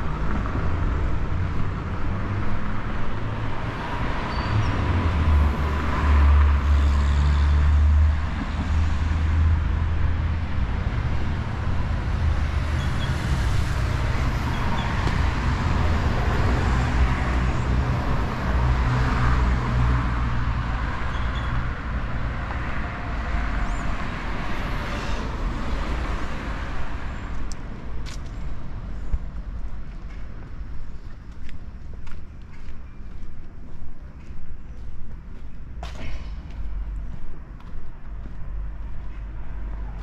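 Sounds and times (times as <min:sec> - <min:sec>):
traffic passing: 0:00.0 - 0:40.0.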